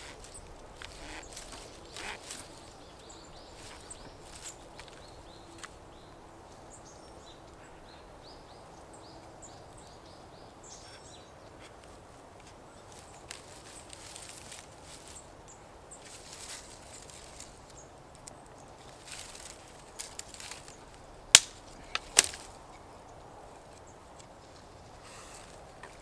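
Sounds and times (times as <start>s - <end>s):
faint outdoor background: 0.0s - 26.0s
small birds chirping: 0.0s - 26.0s.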